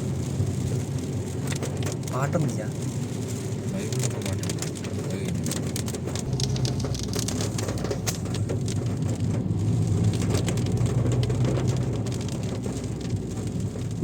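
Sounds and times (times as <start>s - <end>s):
car engine and road hum: 0.0s - 14.0s
rain tapping on car roof: 0.0s - 14.0s.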